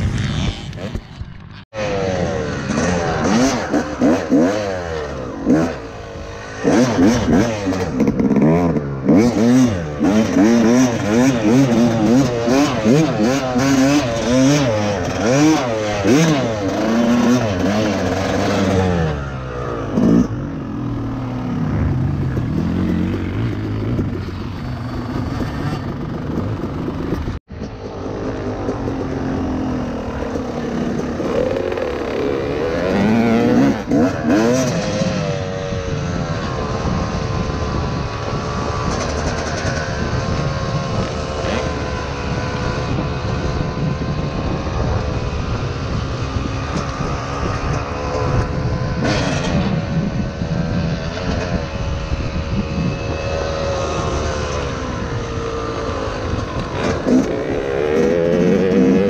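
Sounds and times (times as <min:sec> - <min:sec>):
two-stroke dirt bike engine revving: 0:00.0 - 0:59.0
wind rushing over microphone: 0:00.0 - 0:59.0.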